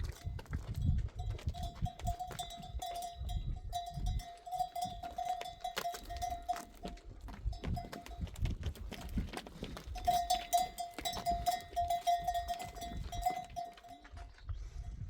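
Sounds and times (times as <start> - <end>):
livestock bell clanking: 0.1 - 15.0.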